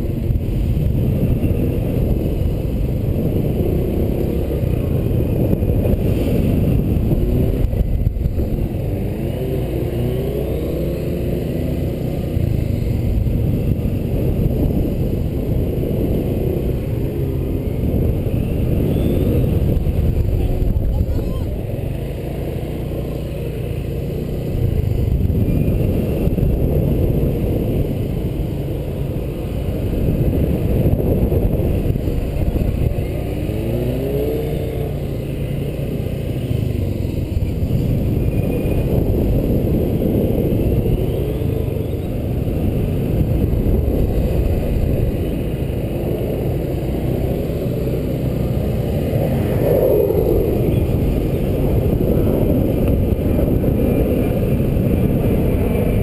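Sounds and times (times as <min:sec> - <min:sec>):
scooter engine running: 0:00.0 - 0:56.0.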